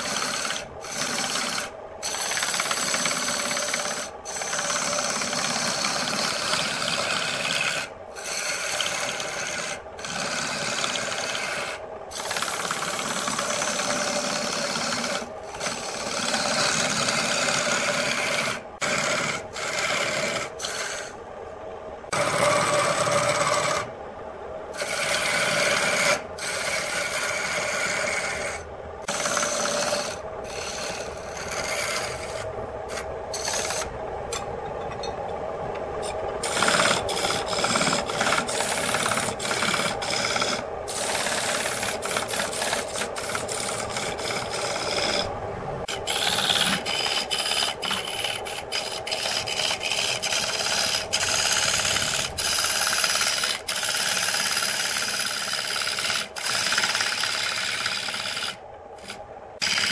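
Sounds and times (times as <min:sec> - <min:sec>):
lathe tool scraping wood: 0:00.0 - 0:21.2, 0:22.1 - 0:23.9, 0:24.7 - 0:34.0, 0:36.0 - 0:59.9.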